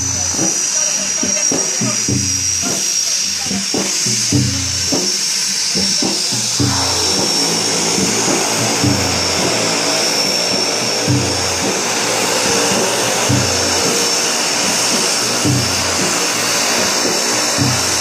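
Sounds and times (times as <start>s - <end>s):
turboprop engines whining: 0.0s - 18.0s.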